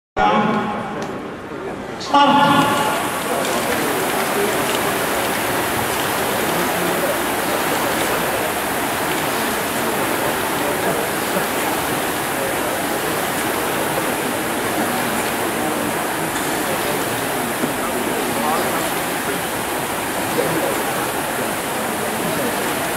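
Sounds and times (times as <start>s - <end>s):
rowing machine flywheels whirring: 2.6s - 22.9s.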